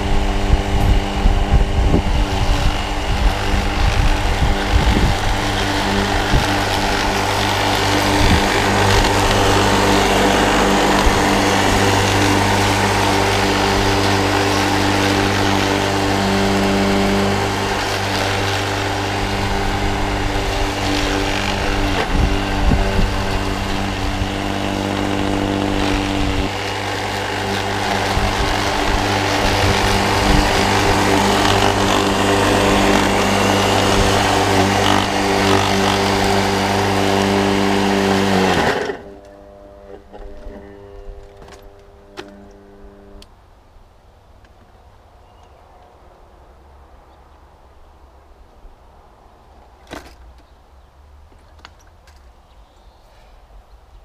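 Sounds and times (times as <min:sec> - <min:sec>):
electric lawn mower buzzing: 0:00.0 - 0:43.6.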